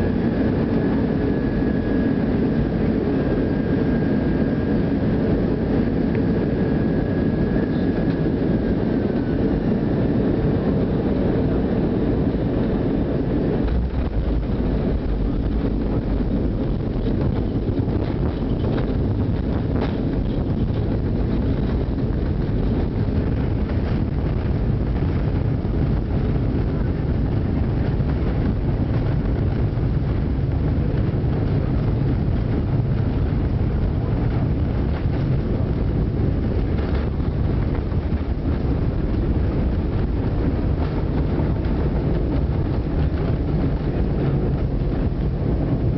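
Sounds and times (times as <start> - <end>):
airplane cabin low rumble: 0.0 - 45.9.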